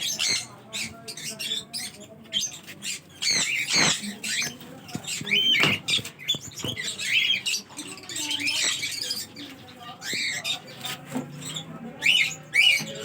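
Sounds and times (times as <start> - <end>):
parrots chirping and squawking: 0.0 - 13.0.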